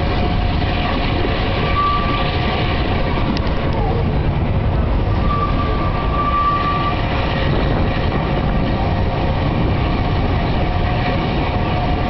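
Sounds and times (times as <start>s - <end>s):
train wheels and engine rumbling: 0.0s - 12.0s
wheels squealing: 0.0s - 12.0s.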